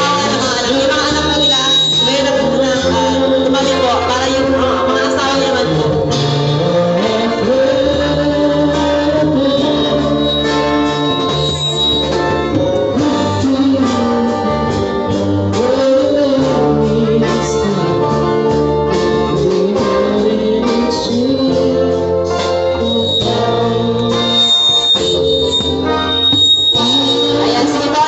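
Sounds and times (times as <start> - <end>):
person singing: 0.0 - 26.1, 26.7 - 28.0
bass notes: 0.0 - 28.0
live band playing: 0.0 - 28.0.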